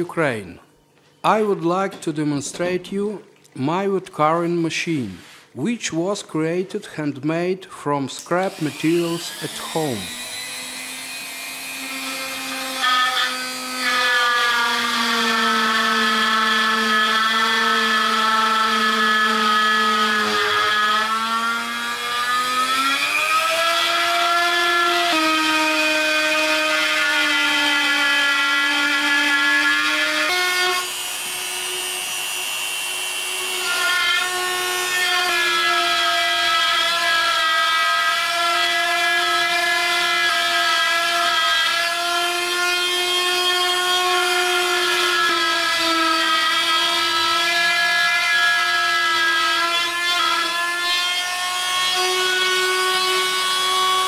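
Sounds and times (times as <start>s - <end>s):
electric drill cutting wood: 8.3s - 54.0s.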